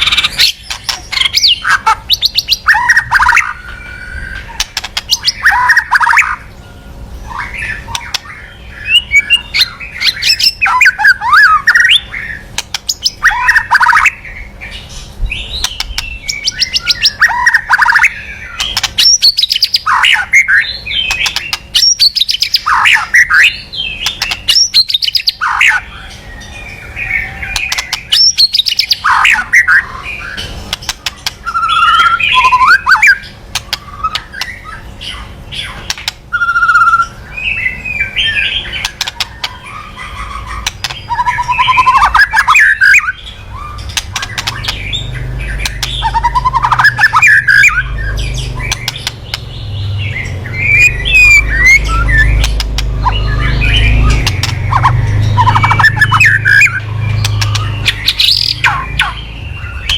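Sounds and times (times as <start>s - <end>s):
bird singing harsh clicks and whistles: 0.0s - 6.5s, 7.4s - 25.9s, 27.4s - 59.9s.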